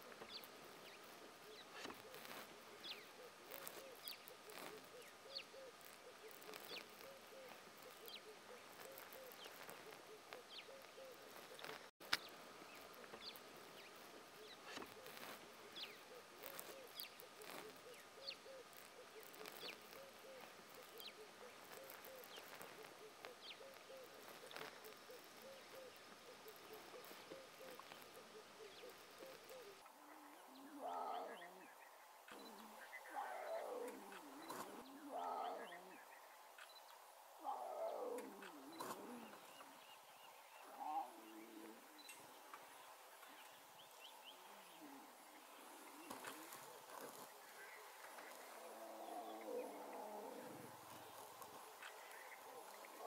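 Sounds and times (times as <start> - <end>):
birds calling: 0.0 - 53.0.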